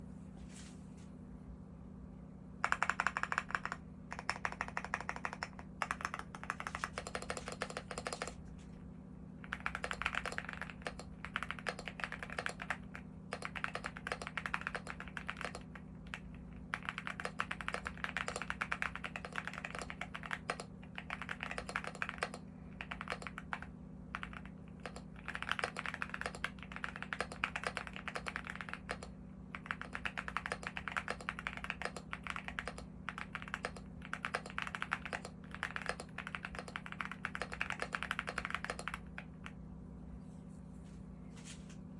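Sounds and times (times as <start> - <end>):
low steady hum: 0.0 - 41.9
mechanical keyboard typing: 2.6 - 8.4, 9.4 - 39.6.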